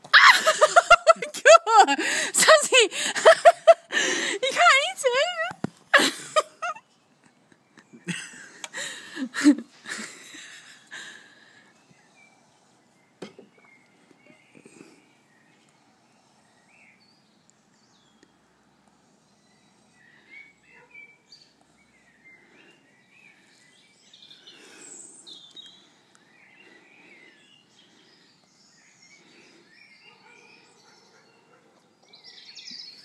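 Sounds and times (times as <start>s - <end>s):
birds chirping: 0.0s - 33.0s
outdoor background hiss: 0.0s - 33.0s.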